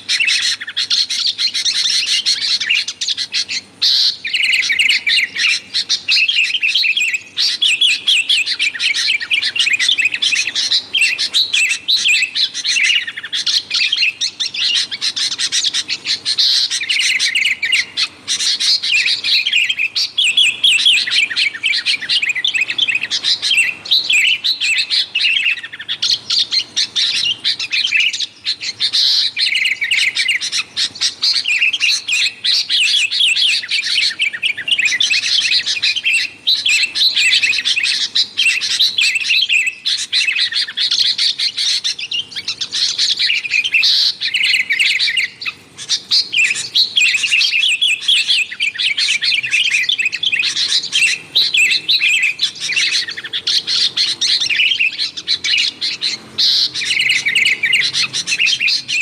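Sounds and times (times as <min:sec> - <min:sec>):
birds chattering: 0:00.0 - 0:59.0.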